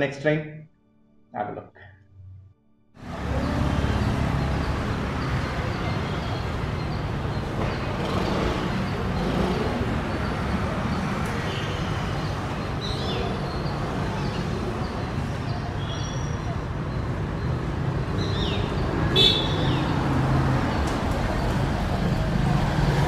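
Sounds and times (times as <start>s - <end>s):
road traffic: 3.0s - 23.0s.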